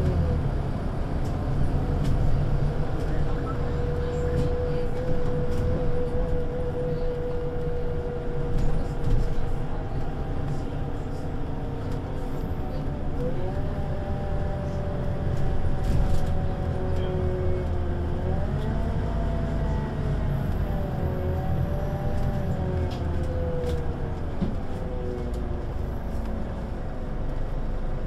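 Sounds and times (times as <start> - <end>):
bus diesel engine drone: 0.0 - 28.0.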